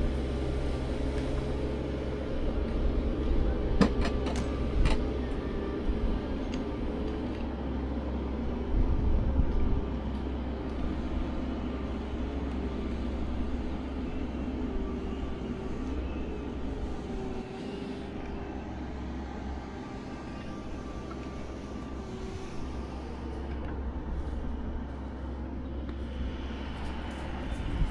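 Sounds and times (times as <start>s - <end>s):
engine rumbling: 0.0s - 27.9s.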